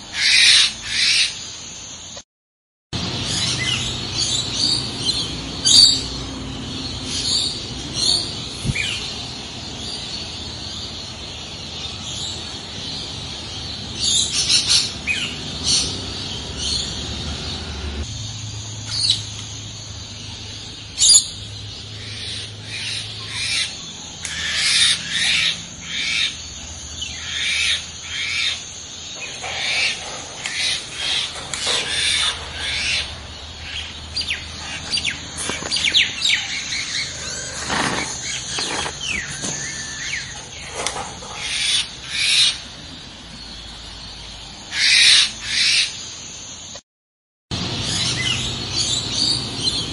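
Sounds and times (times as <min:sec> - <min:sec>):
birds chirping: 0:03.0 - 0:46.8, 0:47.5 - 0:49.9.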